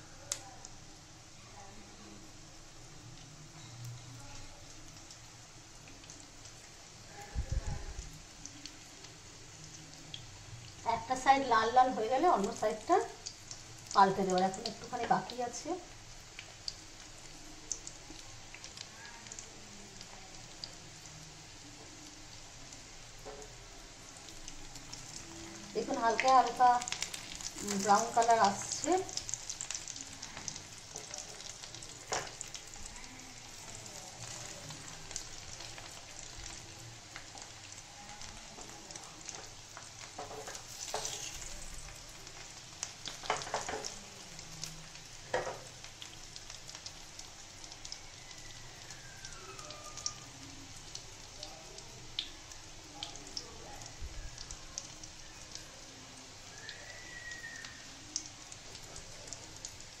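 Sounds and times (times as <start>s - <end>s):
chicken frying in oil: 0.0s - 60.0s.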